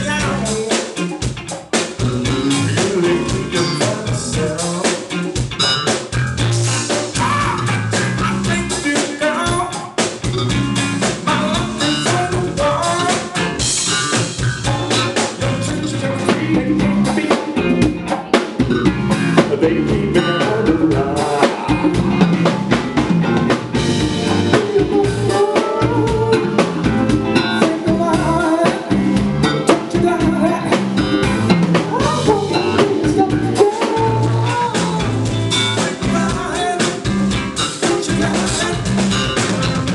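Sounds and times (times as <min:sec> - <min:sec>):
person singing: 0:00.0 - 0:01.2, 0:02.0 - 0:05.4, 0:07.1 - 0:10.0, 0:11.2 - 0:13.6, 0:14.6 - 0:22.5, 0:23.9 - 0:31.0, 0:31.7 - 0:39.9
band playing: 0:00.0 - 0:39.9
drum kit beat: 0:00.0 - 0:39.9.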